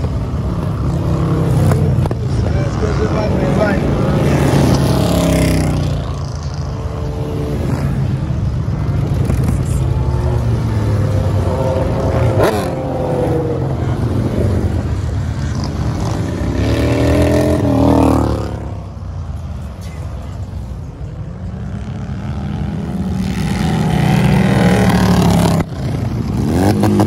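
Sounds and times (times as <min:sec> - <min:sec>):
motorcycles riding past: 0:00.0 - 0:27.0.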